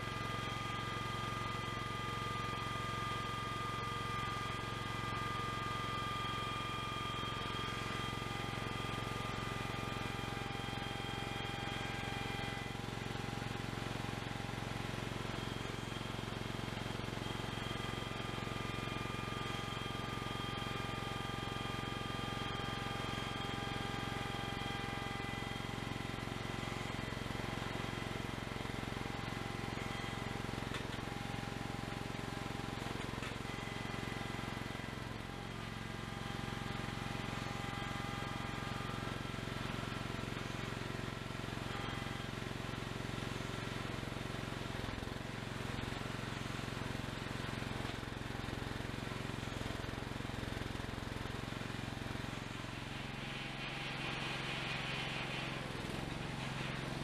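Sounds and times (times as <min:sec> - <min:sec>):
small gasoline engine running: 0:00.0 - 0:57.0.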